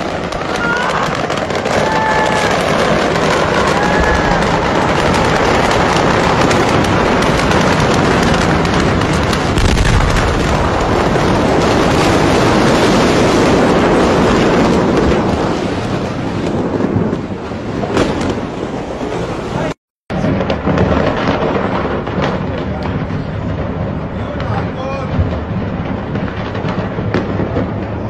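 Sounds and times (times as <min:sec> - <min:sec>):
explosion rumbling roar: 0:00.0 - 0:28.0.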